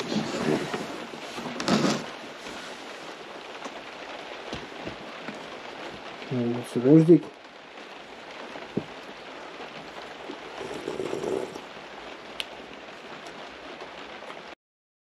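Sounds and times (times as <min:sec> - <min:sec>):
steady hiss: 0:00.0 - 0:14.5.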